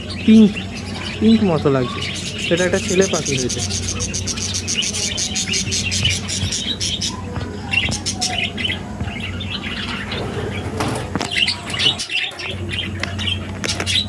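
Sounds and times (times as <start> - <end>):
budgerigars chirping: 0.0 - 14.0.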